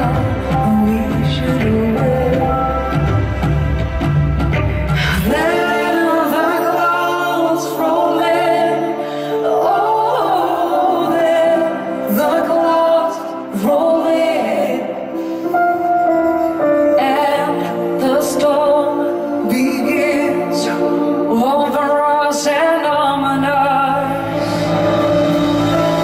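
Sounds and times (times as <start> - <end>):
woman singing with vibrato: 0.0 - 3.3, 4.9 - 26.0
band accompaniment: 0.0 - 26.0.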